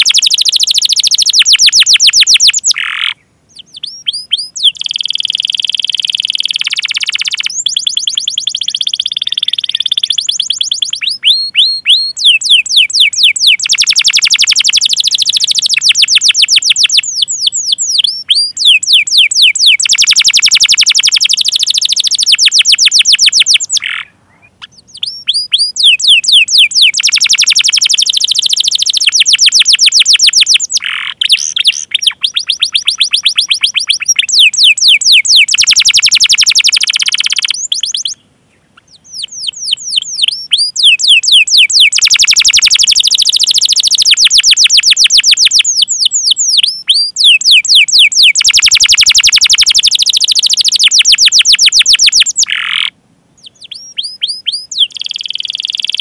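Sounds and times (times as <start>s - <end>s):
canary trilling song: 0.0s - 56.0s.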